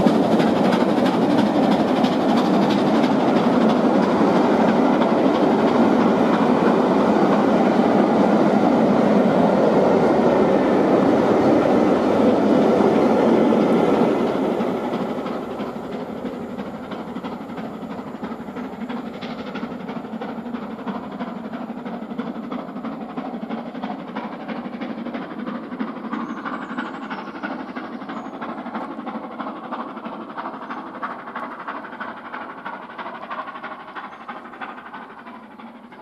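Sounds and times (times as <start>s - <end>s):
coaches rolling over rail joints: 0.0s - 36.0s
steam locomotive exhaust beat: 0.0s - 36.0s.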